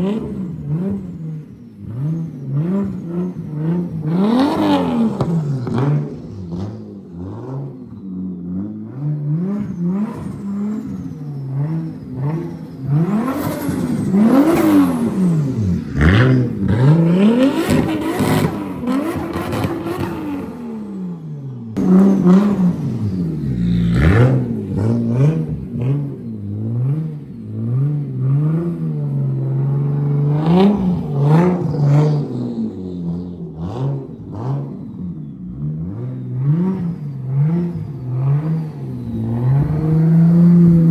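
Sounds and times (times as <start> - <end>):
car engine revving hard: 0.0 - 7.8, 8.6 - 40.9.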